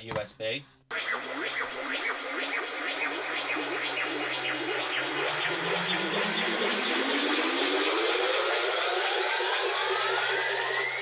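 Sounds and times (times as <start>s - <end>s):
electronic dance music beat: 0.9s - 11.0s
rising synth tone: 0.9s - 11.0s.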